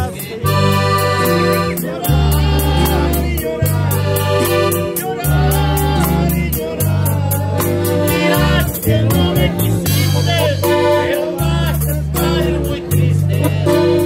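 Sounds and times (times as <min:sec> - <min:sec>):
drum kit cymbal beat: 0:00.0 - 0:14.0
electric bass: 0:00.0 - 0:14.0
guitar: 0:00.0 - 0:14.0
male voices singing: 0:00.0 - 0:14.0.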